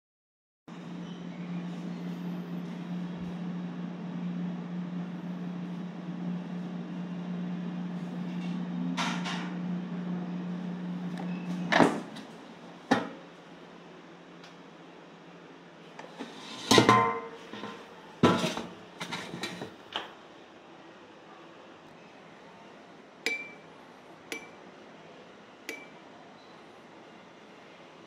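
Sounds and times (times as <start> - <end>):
air fryer fan humming: 0.7 - 20.3, 22.5 - 28.0.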